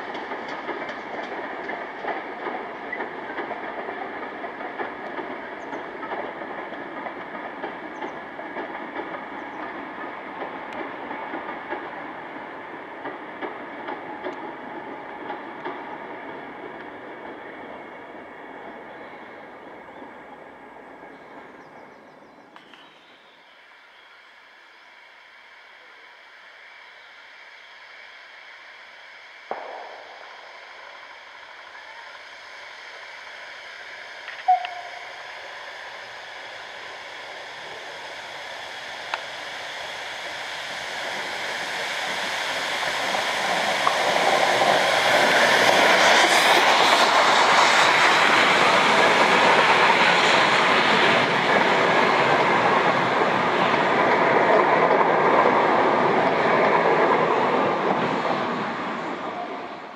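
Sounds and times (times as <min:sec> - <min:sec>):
train wheel and rail noise: 0:00.0 - 0:59.9.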